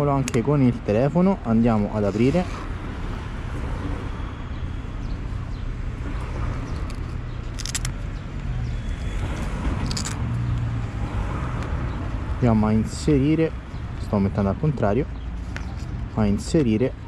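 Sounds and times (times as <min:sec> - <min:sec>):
street traffic hum: 0:00.0 - 0:17.0.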